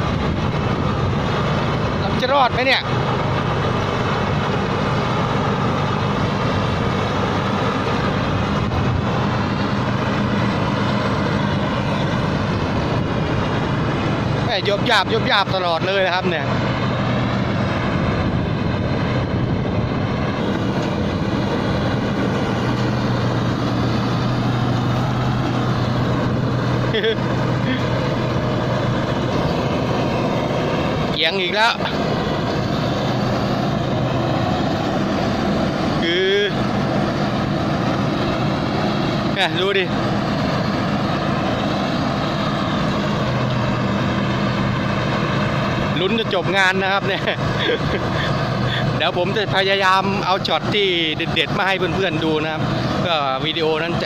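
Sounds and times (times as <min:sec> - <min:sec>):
harvester engine running: 0:00.0 - 0:54.0.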